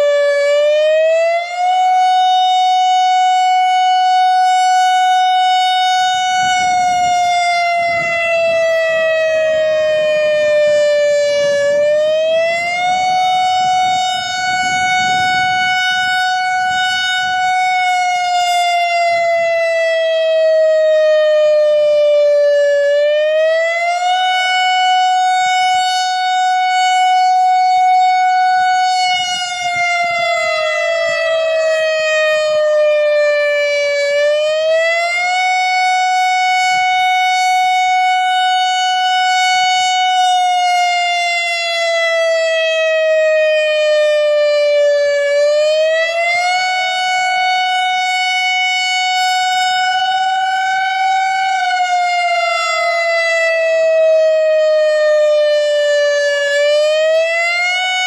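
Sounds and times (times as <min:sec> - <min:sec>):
electronic siren wailing: 0:00.0 - 0:58.0.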